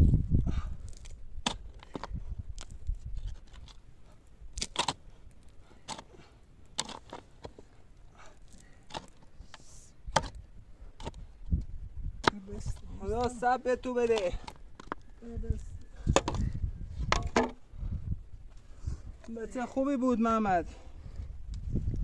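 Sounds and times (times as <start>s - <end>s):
shovel digging stony earth: 0.0s - 17.6s.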